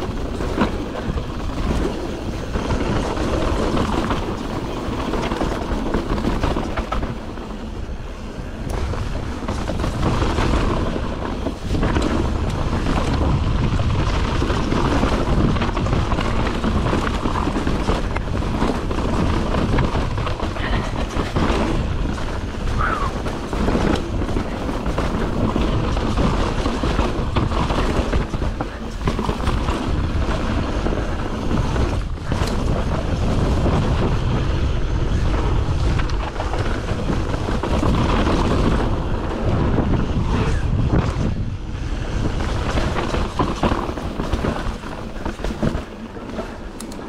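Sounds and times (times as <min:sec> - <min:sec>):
bike rattling over bumps: 0:00.0 - 0:47.0
tyres rumbling over dirt and rock: 0:00.0 - 0:47.0
wind buffeting microphone: 0:00.0 - 0:47.0.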